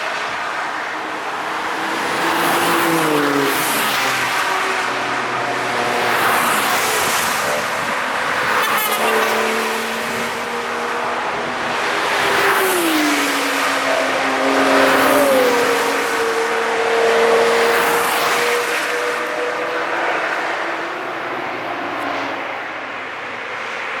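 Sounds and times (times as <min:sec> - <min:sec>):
racing cars passing: 0:00.0 - 0:24.0
tyre and road noise: 0:00.0 - 0:24.0.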